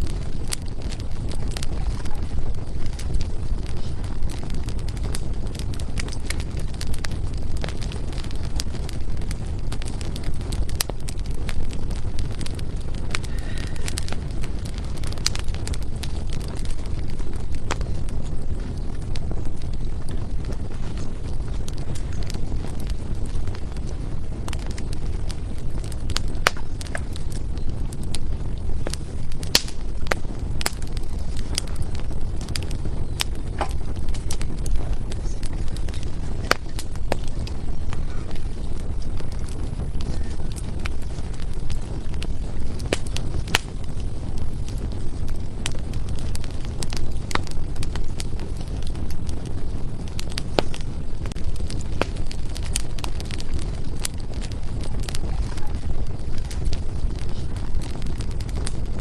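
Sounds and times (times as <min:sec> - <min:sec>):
firewood crackling and popping: 0:00.0 - 0:59.0
low fire rumble: 0:00.0 - 0:59.0.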